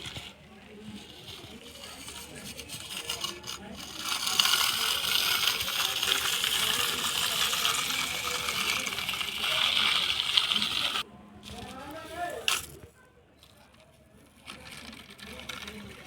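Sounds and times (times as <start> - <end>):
small hard pieces rattling: 0.0 - 16.0.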